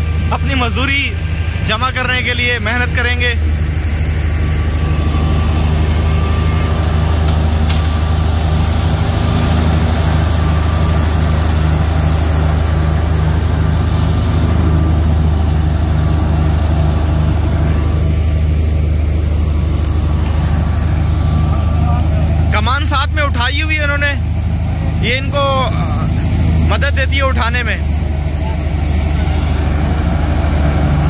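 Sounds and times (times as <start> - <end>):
thresher machine drone: 0.0 - 31.0.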